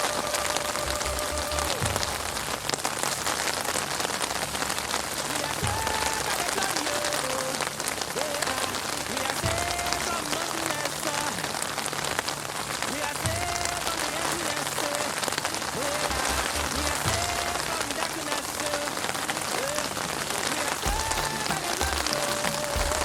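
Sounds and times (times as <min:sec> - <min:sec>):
heavy rain on street: 0:00.0 - 0:23.0.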